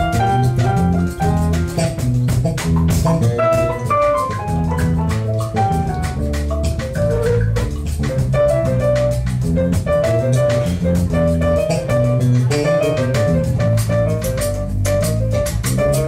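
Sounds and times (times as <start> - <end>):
low sustained bass notes: 0.0 - 16.0
piano playing quick runs: 0.0 - 16.0.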